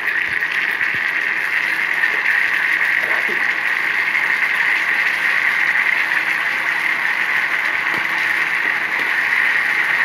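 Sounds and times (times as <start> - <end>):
spice paste sizzling in oil: 0.0 - 10.0.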